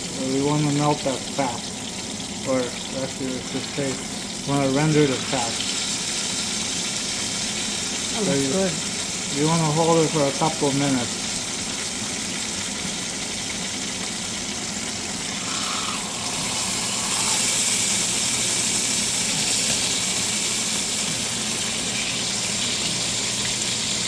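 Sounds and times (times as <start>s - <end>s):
steak sizzling in a pan: 0.1s - 24.0s.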